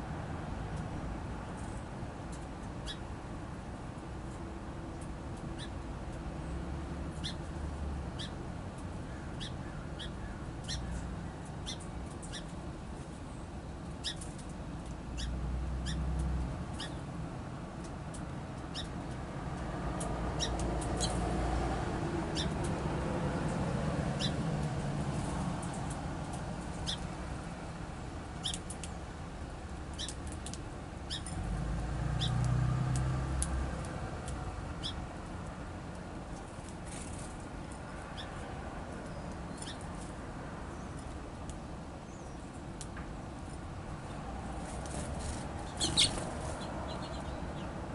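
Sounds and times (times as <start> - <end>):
songbirds chipping: 1.4 - 3.1, 4.9 - 17.2, 17.8 - 47.9.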